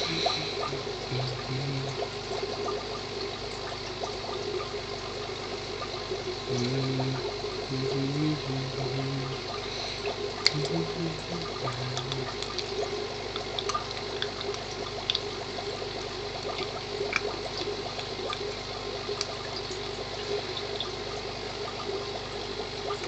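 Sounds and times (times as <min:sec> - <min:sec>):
aquarium filter water trickling: 0:00.0 - 0:23.0.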